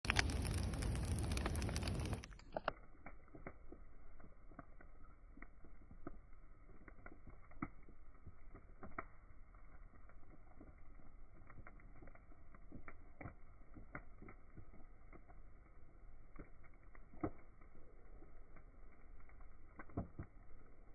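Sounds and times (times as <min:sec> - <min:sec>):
bonfire crackling and popping: 0:00.0 - 0:20.9
low steady fire rumble: 0:00.0 - 0:20.9.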